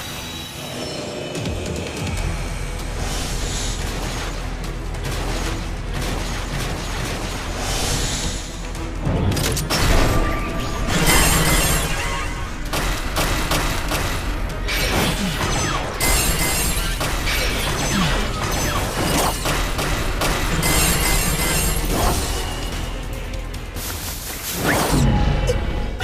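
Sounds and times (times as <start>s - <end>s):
dramatic background score: 0.0s - 26.0s.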